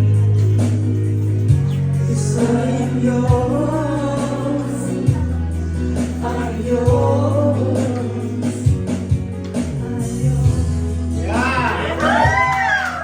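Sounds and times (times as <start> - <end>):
held bass notes: 0.0 - 12.8
gospel band playing: 0.0 - 13.0
person singing: 1.7 - 12.5.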